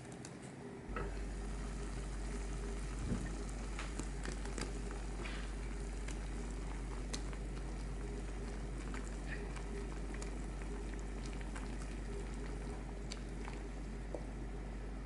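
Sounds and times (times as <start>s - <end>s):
soup boiling in a saucepan: 0.9s - 15.0s.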